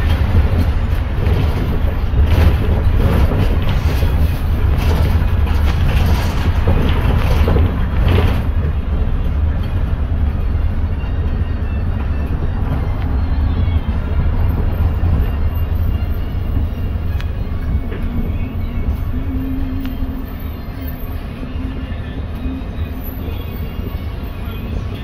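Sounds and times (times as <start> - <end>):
bus engine low rumble: 0.0 - 25.0
road and body noise: 0.0 - 25.0.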